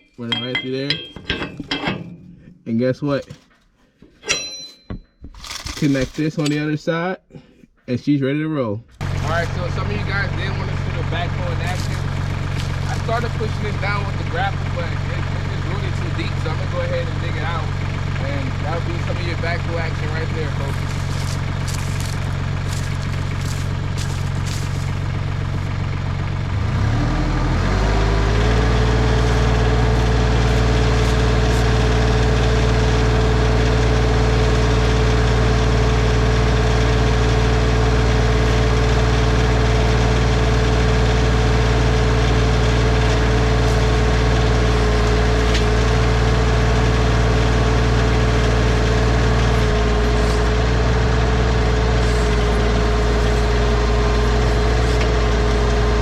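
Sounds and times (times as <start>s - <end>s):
tractor engine revving: 9.0s - 56.0s.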